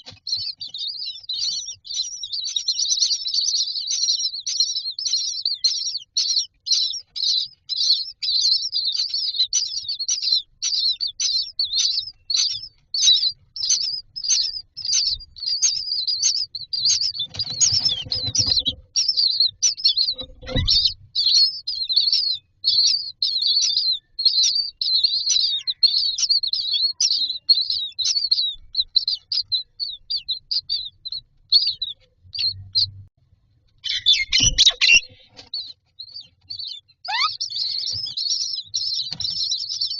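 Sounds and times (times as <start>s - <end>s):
chicks begging calls: 0.0s - 33.1s, 33.7s - 39.9s.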